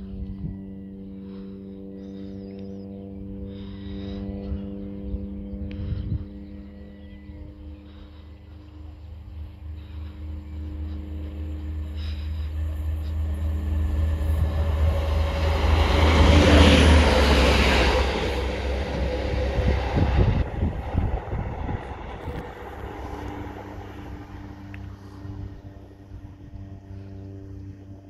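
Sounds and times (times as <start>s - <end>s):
train engine drone: 0.0s - 28.0s
wheels rushing on rails: 3.1s - 28.0s.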